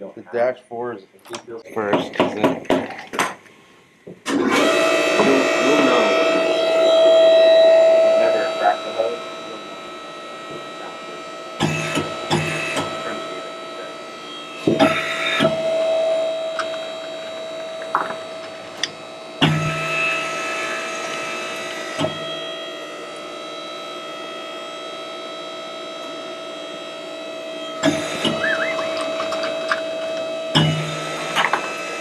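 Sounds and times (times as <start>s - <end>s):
machine humming: 0.0s - 32.0s.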